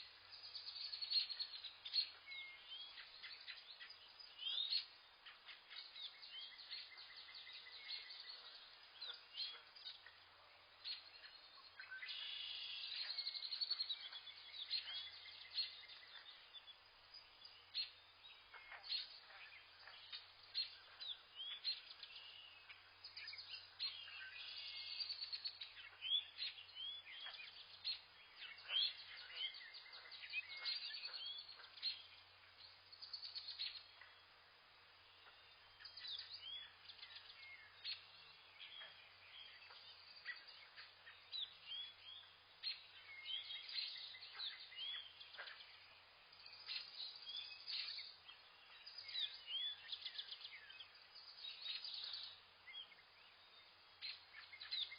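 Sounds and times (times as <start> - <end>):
wild birds chirping: 0.0 - 54.9.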